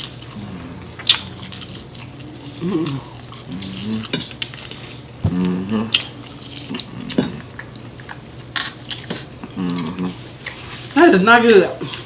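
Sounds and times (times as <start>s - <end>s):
chewing chicken wings: 0.0s - 10.6s.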